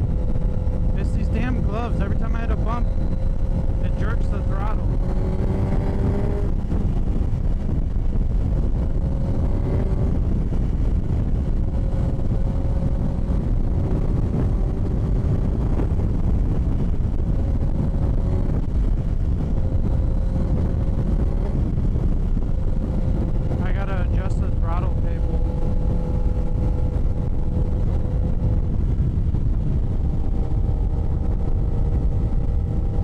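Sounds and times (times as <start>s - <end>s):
motorcycle engine droning: 0.0s - 33.0s
wind buffeting microphone: 0.0s - 33.0s.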